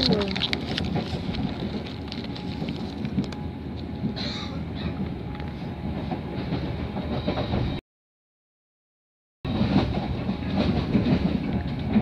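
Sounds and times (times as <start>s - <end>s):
train running: 0.0s - 7.8s, 9.5s - 12.0s.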